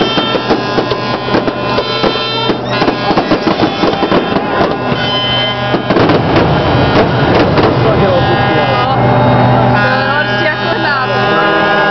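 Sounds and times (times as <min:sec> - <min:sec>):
reedy melody: 0:00.0 - 0:11.9
low drone: 0:01.1 - 0:11.9.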